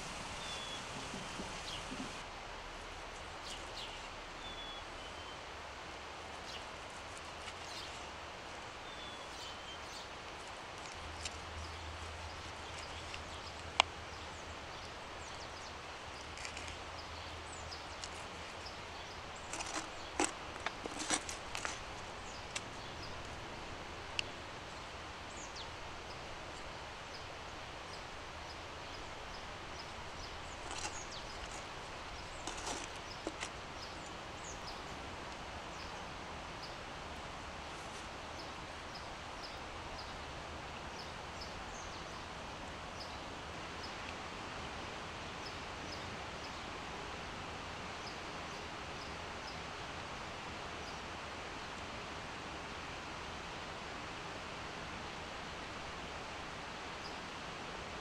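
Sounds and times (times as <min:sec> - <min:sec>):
steady outdoor hiss: 0:00.0 - 0:58.0.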